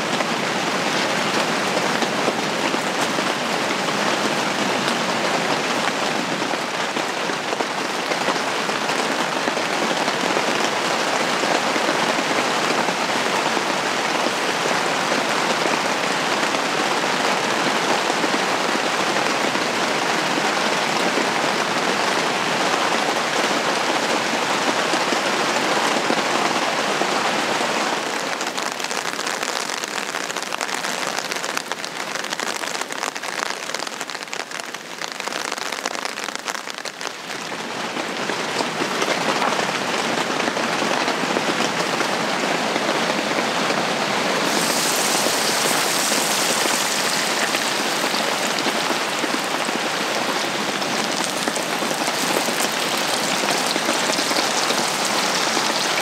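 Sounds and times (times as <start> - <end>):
rain on a fabric roof: 0.0 - 56.0.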